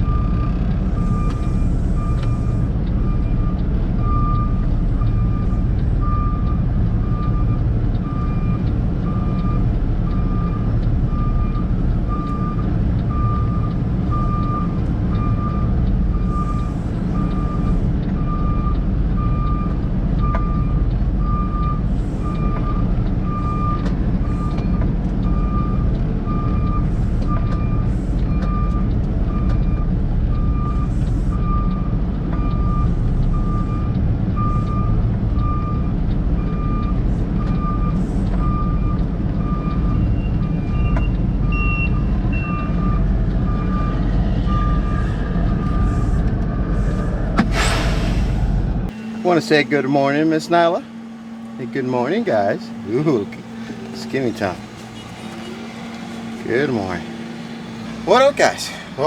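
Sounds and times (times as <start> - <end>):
backup alarm beeping: 0.0 - 46.8, 48.9 - 57.2
heavy engine rumbling: 0.0 - 59.0.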